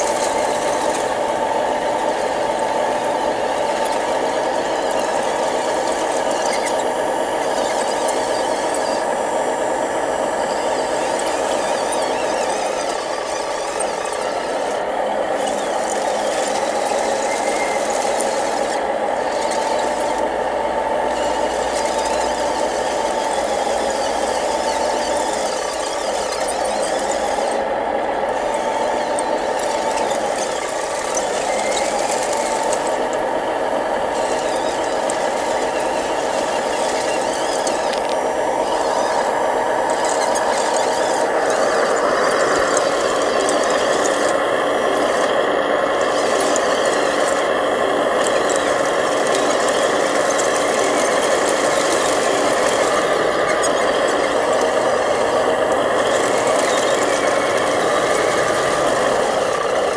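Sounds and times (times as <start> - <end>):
toy truck motors whining: 0.0 - 59.9.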